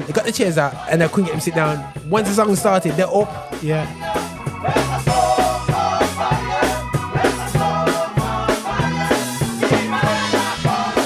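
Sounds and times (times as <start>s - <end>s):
drum kit beat: 0.0s - 11.0s
voices singing: 0.0s - 11.0s
electric bass line: 0.7s - 11.0s.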